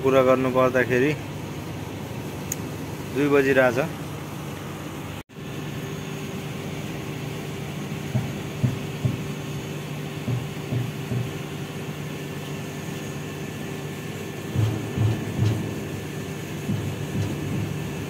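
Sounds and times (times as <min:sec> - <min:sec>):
faint steady whine: 0:00.0 - 0:18.0
mechanical hum: 0:00.0 - 0:18.0.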